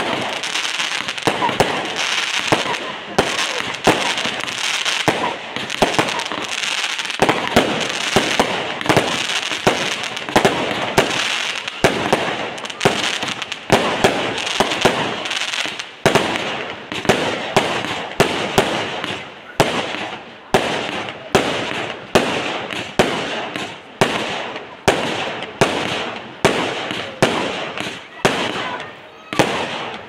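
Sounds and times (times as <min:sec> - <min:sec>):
continuous hiss: 0:00.0 - 0:30.0
fireworks bangs: 0:00.0 - 0:30.0.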